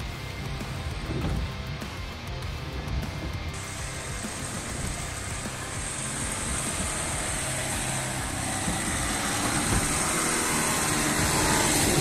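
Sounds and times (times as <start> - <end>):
truck engine working under load: 0.0 - 12.0.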